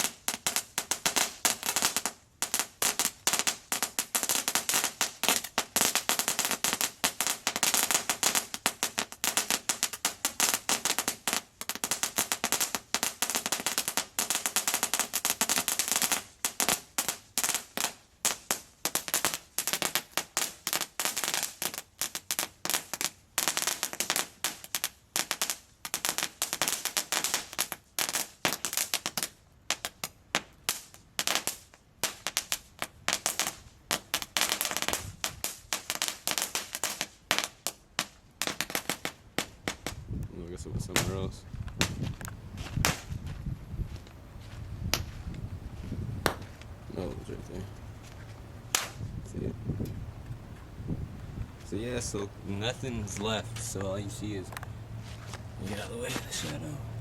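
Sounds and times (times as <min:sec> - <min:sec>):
firework crackling snaps: 0:00.0 - 0:43.2, 0:44.9 - 0:45.2, 0:46.2 - 0:47.6, 0:48.2 - 0:50.4, 0:52.6 - 0:54.7.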